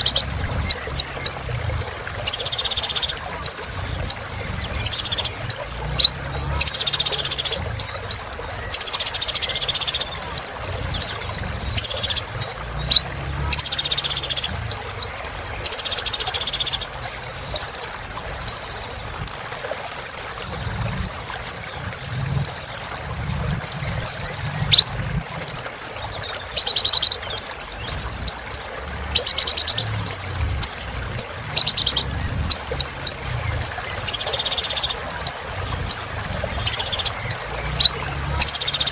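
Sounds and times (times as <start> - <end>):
sunbird singing: 0.0 - 38.9.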